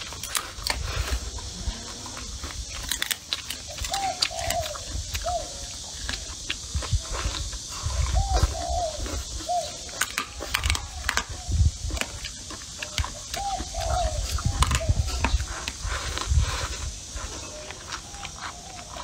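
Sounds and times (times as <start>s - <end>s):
animal calls: 0.0s - 16.3s, 17.1s - 19.0s
chewing and lip-smacking: 0.0s - 19.0s.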